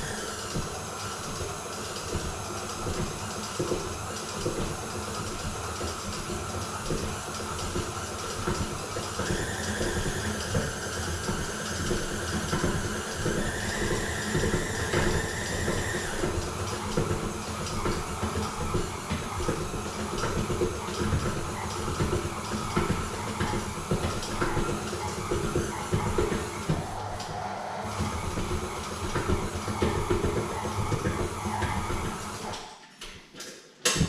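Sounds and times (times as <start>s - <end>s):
dough knocking in mixer: 0.0s - 32.7s
electric mixer motor whine: 0.0s - 32.7s.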